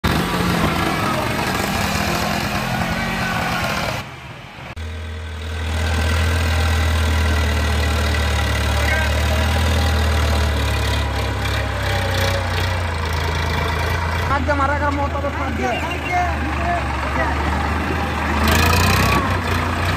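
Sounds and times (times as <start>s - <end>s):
tractor diesel engine drone: 0.0s - 19.9s.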